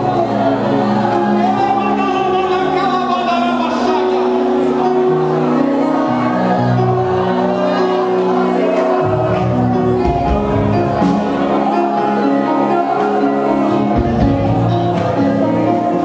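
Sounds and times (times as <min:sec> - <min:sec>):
gospel music with group singing: 0:00.0 - 0:16.0.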